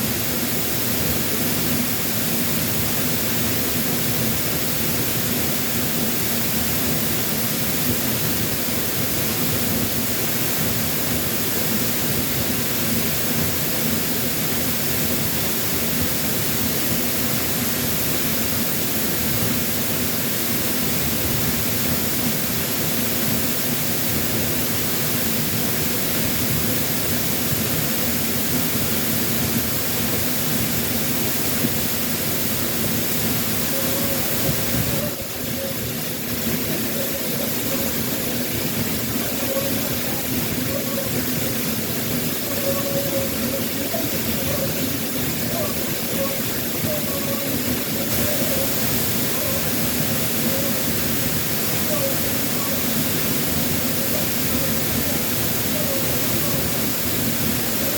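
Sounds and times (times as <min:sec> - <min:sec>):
waterfall pouring heavily: 0:00.1 - 0:57.9.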